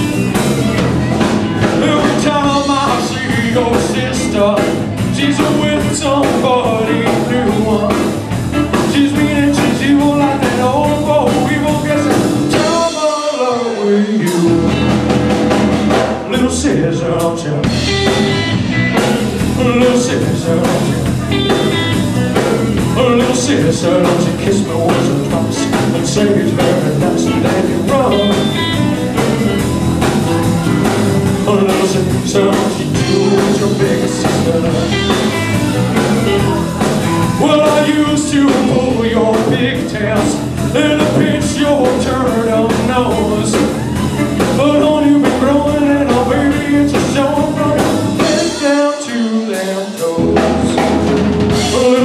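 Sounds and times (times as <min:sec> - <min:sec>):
man singing: 0:00.0 - 0:15.3, 0:15.9 - 0:52.0
drum kit: 0:00.0 - 0:52.0
electric bass: 0:00.0 - 0:52.0
electric guitar: 0:00.0 - 0:52.0.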